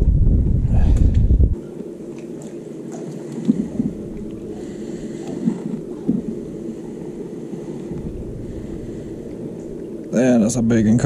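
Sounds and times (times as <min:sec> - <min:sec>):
wind on microphone: 0:00.0 - 0:01.7, 0:03.0 - 0:11.0
water lapping against boat hull: 0:01.6 - 0:11.0.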